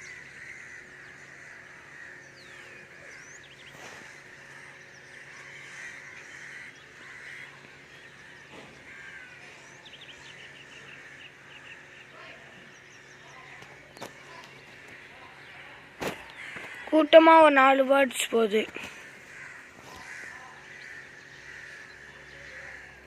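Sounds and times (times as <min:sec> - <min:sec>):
birds chirping and calling: 0:00.0 - 0:23.0
steady background hum: 0:00.0 - 0:23.0.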